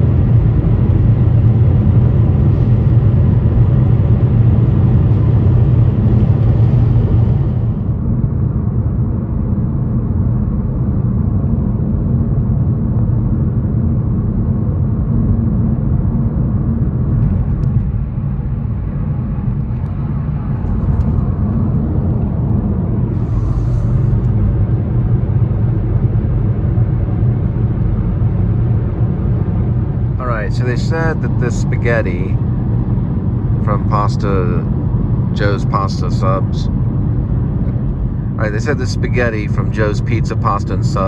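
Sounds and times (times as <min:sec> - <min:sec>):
car engine rumble: 0:00.0 - 0:41.0.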